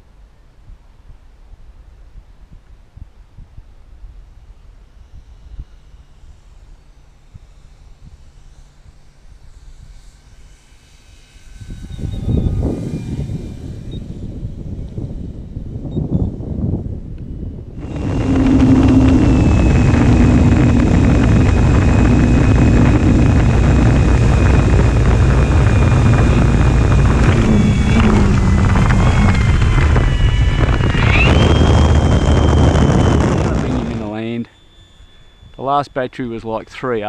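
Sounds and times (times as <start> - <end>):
wind noise on microphone: 0.0 - 37.0
electric motor whine: 4.5 - 36.7.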